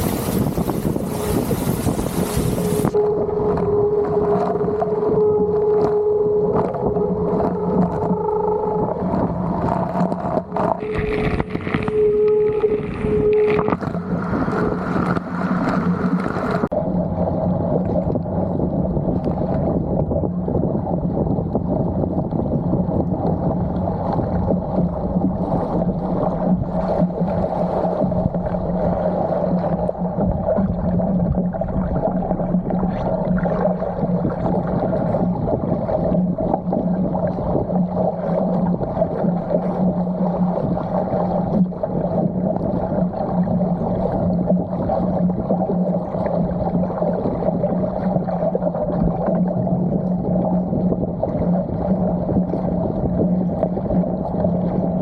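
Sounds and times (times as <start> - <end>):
rushing water: 0.0 - 21.2, 22.1 - 55.0
muffled hum: 0.0 - 55.0.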